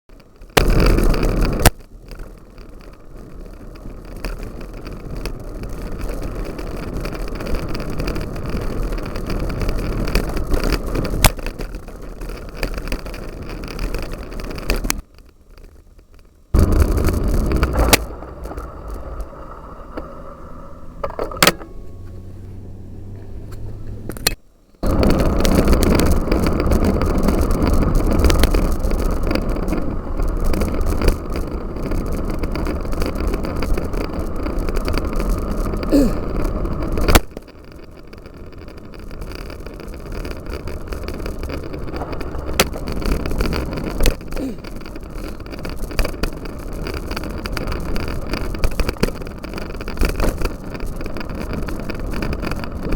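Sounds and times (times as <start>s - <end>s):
bicycle rattling: 0.1s - 52.9s.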